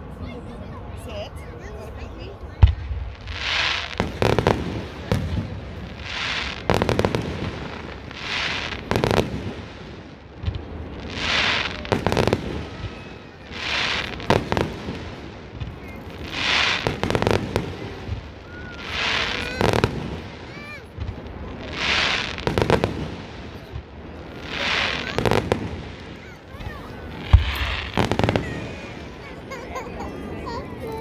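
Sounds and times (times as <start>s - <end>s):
fireworks bursting with bangs: 2.0s - 31.0s
fireworks hiss: 2.6s - 29.5s.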